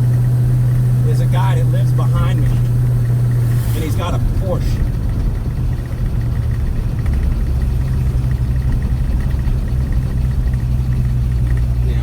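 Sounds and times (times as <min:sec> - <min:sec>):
vee eight engine running: 0:00.0 - 0:12.0.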